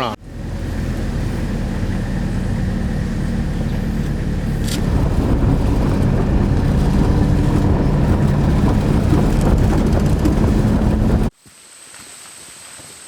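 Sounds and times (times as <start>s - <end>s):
road noise: 0.0s - 11.3s
vehicle engine low rumble: 0.0s - 11.3s.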